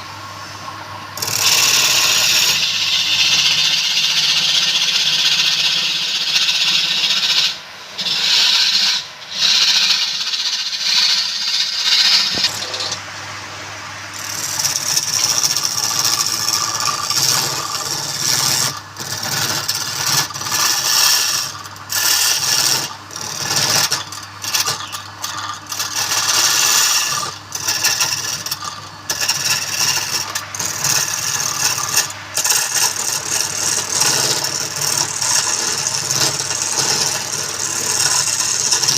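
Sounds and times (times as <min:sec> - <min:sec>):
steady low hum: 0:00.0 - 0:38.9
tool scraping spinning wood: 0:01.2 - 0:13.0, 0:14.1 - 0:38.9
wood lathe running: 0:01.2 - 0:13.0, 0:14.2 - 0:38.9.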